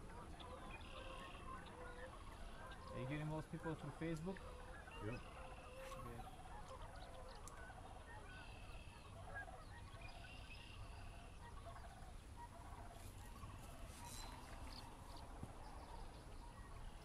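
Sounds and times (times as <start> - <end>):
distant wild birds calling: 0.0 - 17.0
geese honking: 0.0 - 17.0.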